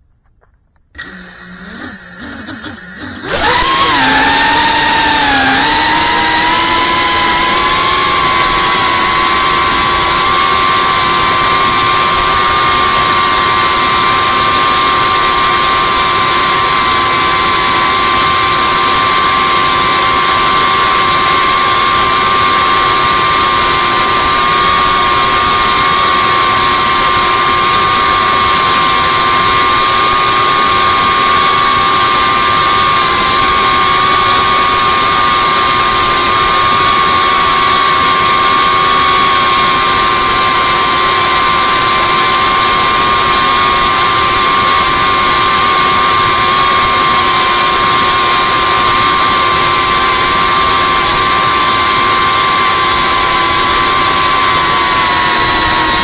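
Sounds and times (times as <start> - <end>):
drone propellers whining: 1.0 - 56.0.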